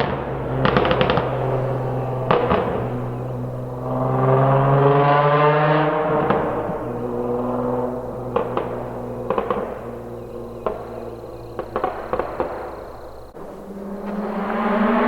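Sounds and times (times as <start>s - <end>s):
car engine idling: 0.0s - 15.0s
exhaust pops: 0.0s - 15.0s.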